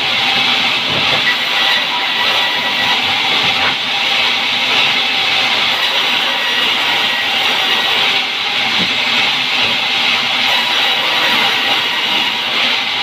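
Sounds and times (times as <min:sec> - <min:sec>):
band saw cutting log: 0:00.0 - 0:13.0
faint saw whine: 0:00.0 - 0:13.0.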